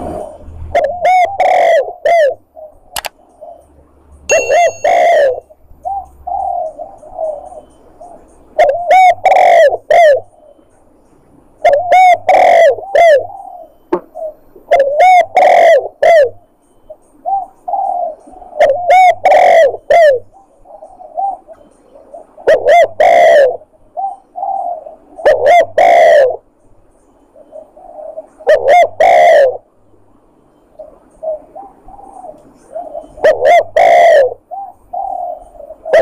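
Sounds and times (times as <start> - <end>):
dove cooing: 0.0 - 3.7, 4.3 - 10.8, 11.6 - 26.5, 27.3 - 29.7, 30.6 - 36.0.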